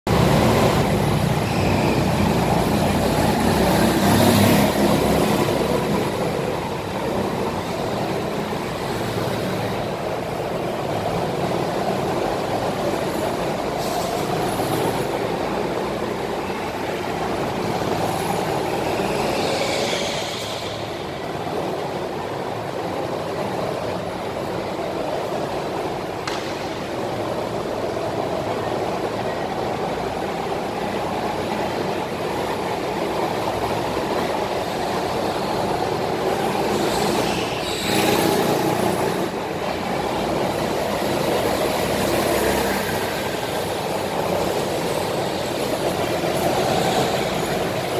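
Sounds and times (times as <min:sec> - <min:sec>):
go-kart engines droning: 0:00.1 - 0:47.9.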